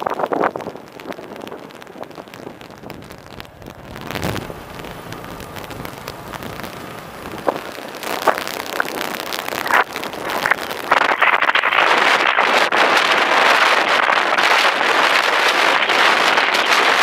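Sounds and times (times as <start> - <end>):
wind buffeting microphone: 0.0 - 17.0
road noise: 0.1 - 17.0.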